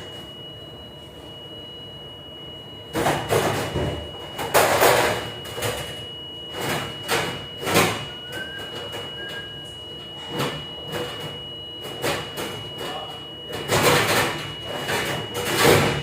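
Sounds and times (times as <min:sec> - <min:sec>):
high machine whine: 0:00.0 - 0:16.0.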